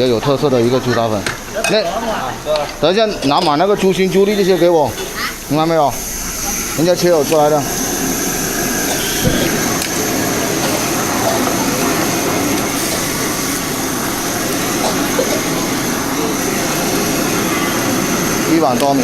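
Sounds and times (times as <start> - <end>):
kitchen equipment rushing noise: 2.7 - 19.0.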